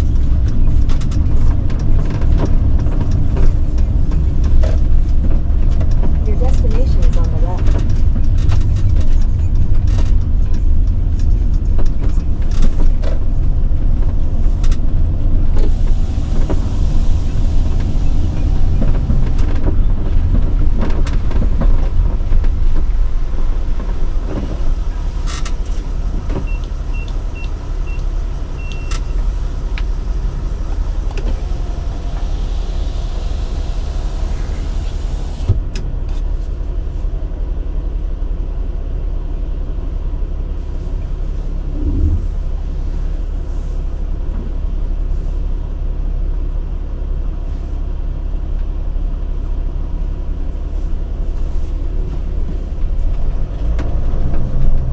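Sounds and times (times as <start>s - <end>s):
engine and road rumble: 0.0s - 54.9s.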